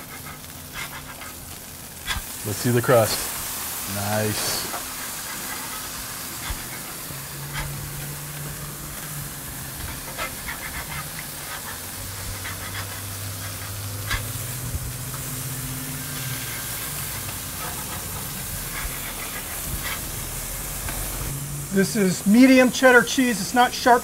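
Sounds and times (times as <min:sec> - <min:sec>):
burger patties sizzling on griddle: 0:00.0 - 0:24.0.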